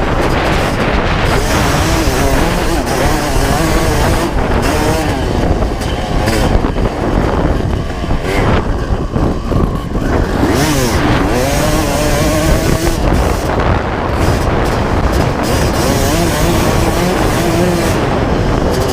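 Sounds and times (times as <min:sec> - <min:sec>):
two-stroke engine revving: 0:00.0 - 0:18.9.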